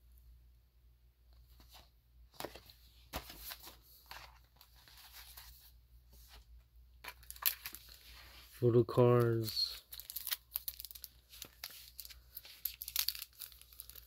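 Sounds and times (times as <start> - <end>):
paper and card rustling: 1.5 - 14.0.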